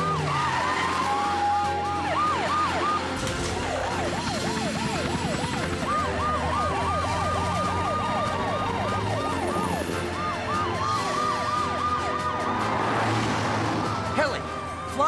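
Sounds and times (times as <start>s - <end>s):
sirens wailing: 0.0s - 15.0s.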